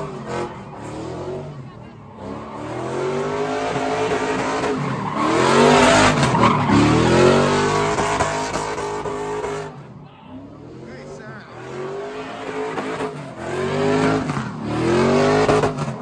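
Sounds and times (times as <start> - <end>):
car engine revving hard: 0.0 - 16.0
tires squealing on pavement: 0.0 - 16.0.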